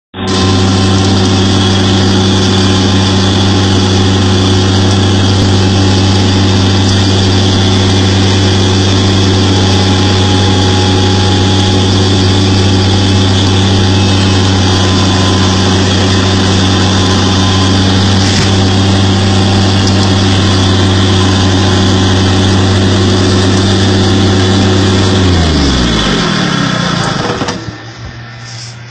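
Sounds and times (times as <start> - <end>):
engine running and winding down: 0.2 - 28.9.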